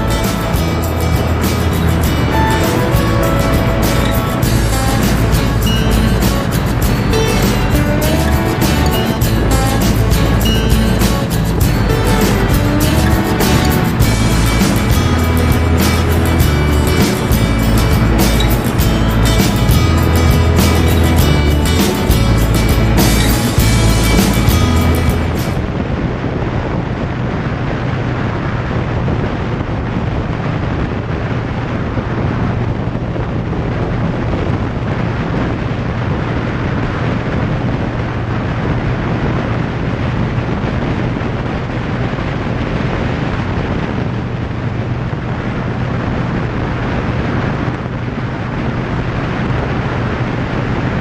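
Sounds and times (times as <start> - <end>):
motorcycle engine droning: 0.0 - 51.0
wind rushing over microphone: 0.0 - 51.0.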